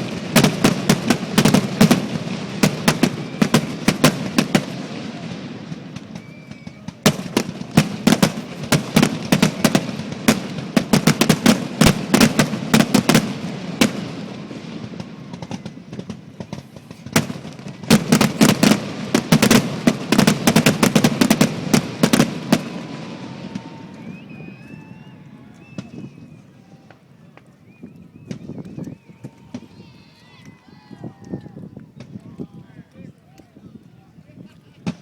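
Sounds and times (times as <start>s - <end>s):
fireworks crackling: 0.0s - 32.5s.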